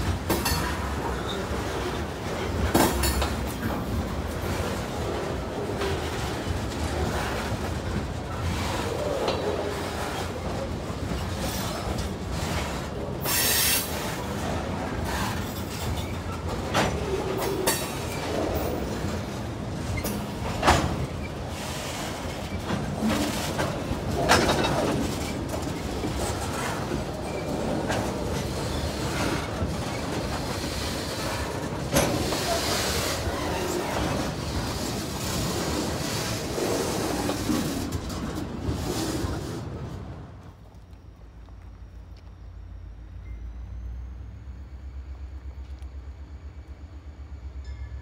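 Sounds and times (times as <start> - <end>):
knocks and clanks of freight cars: 0.0 - 42.5
steel wheels rumbling on rail: 0.0 - 48.0.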